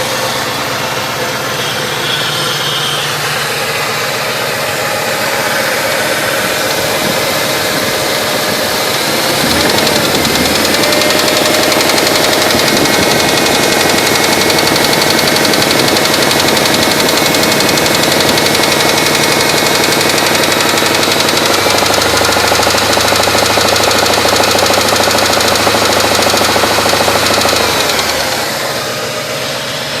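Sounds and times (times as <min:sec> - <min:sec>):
car engine running: 0:00.0 - 0:30.0
engine bearing knock: 0:03.3 - 0:29.0.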